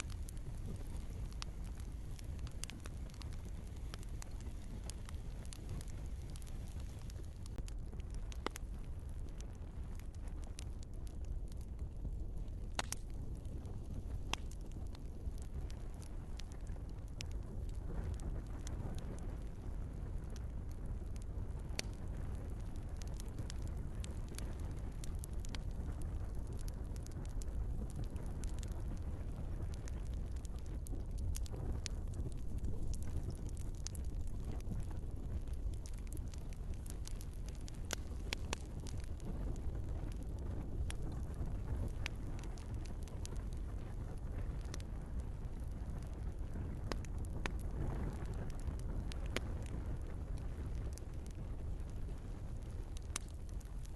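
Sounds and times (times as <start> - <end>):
burning logs crackling and popping: 0.0 - 53.9
low rumble of flames: 0.0 - 53.9.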